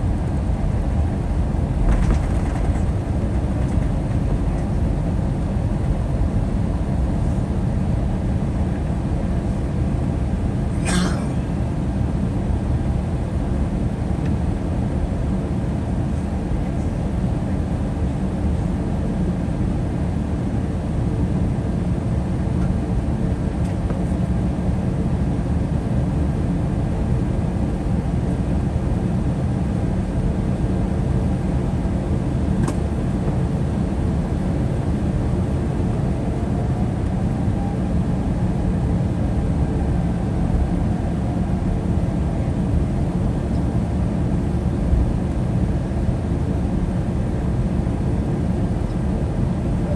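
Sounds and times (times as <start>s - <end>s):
aircraft cabin rumble: 0.0s - 49.9s.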